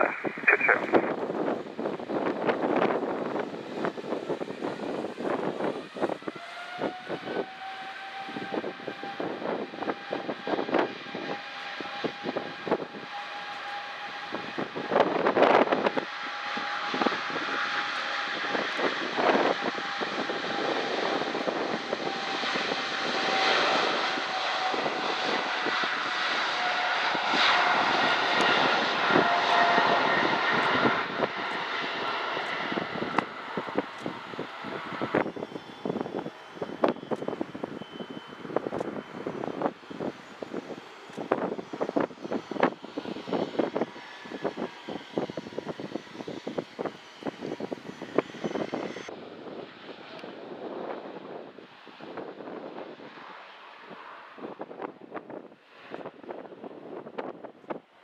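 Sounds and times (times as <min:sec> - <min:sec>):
jet engine roar with high whine: 0:00.0 - 0:58.0.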